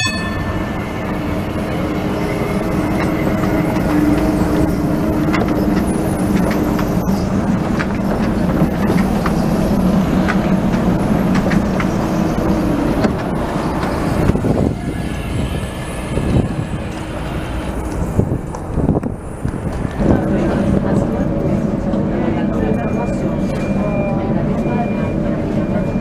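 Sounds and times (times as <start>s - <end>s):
tram electric drive humming: 0.0s - 26.0s.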